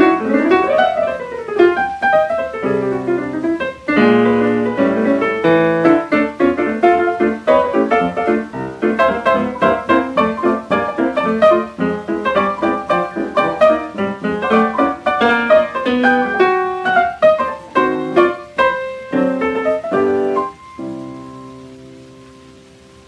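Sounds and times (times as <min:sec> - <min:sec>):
jazz piano record: 0:00.0 - 0:23.0.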